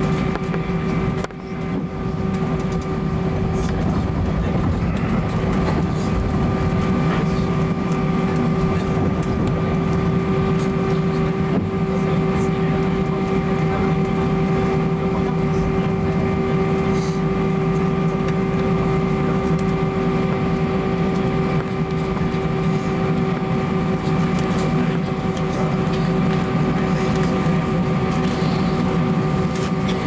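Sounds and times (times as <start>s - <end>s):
jet engines idling in cabin: 0.0s - 30.0s.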